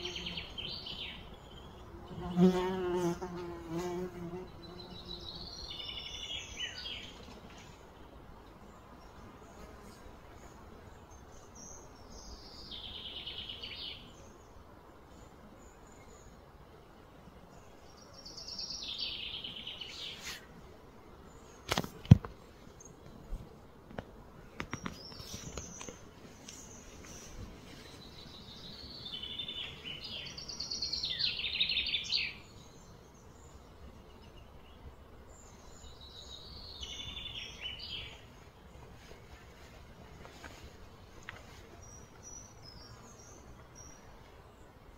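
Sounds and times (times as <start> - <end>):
faint outdoor background: 0.0 - 44.9
songbird singing: 0.0 - 44.9
steady low background noise: 0.0 - 44.9.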